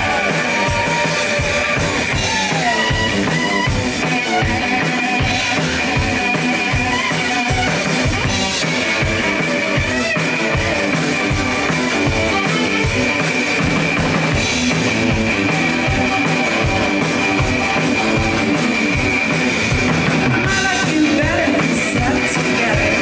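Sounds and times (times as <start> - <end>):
drum kit steady beat: 0.0 - 23.0
electric guitar: 0.0 - 23.0.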